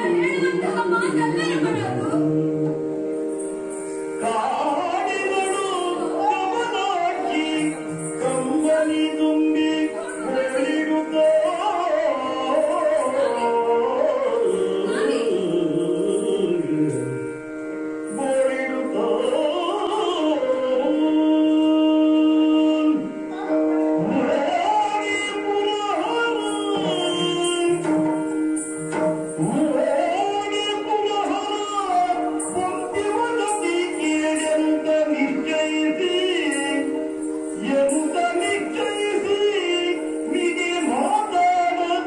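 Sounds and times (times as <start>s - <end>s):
steady held drone: 0.0s - 41.5s
person singing flowing melody: 0.0s - 42.0s.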